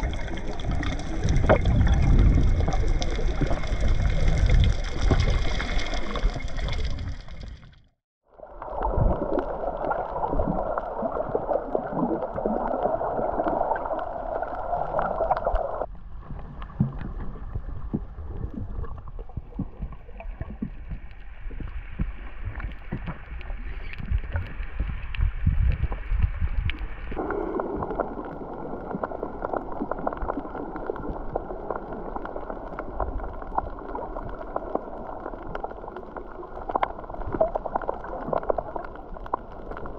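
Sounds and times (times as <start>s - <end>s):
crackle of small clicks: 0.0s - 7.9s, 8.5s - 39.9s
underwater rush and gurgle: 0.0s - 39.9s.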